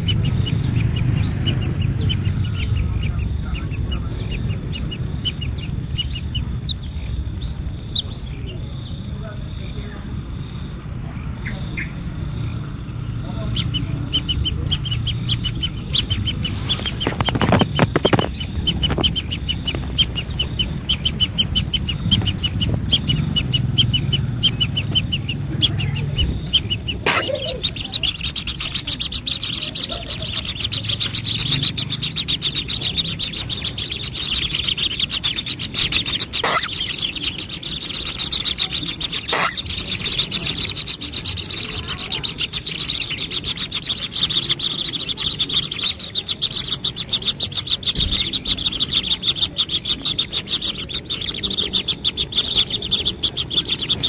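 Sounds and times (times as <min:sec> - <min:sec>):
bird chirping: 0:00.0 - 0:54.0
high insect drone: 0:00.0 - 0:54.0.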